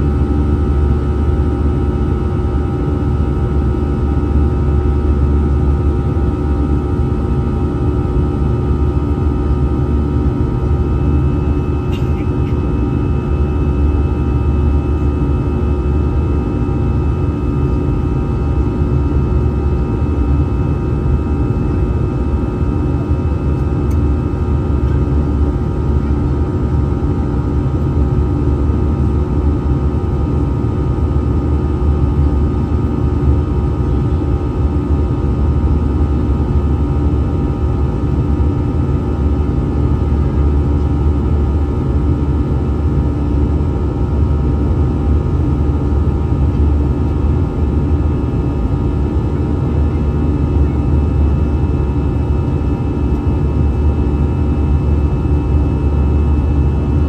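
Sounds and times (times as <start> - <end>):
jet engine cabin roar: 0.0 - 57.0.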